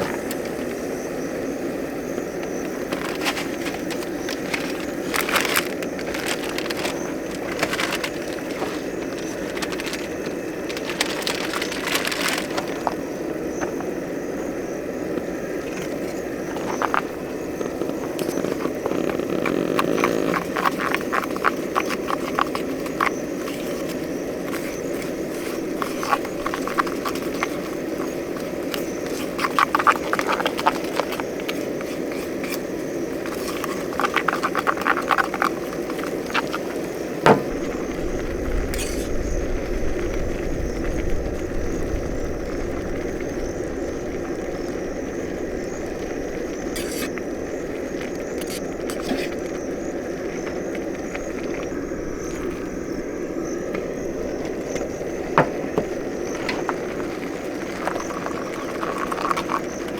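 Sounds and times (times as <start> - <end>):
frogs calling in clicking trills: 0.0 - 59.9.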